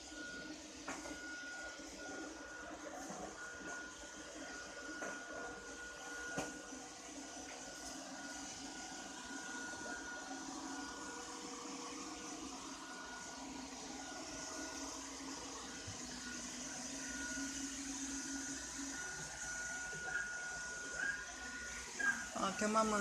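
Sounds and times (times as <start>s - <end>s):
robot vacuum motor hum: 0.0s - 23.0s.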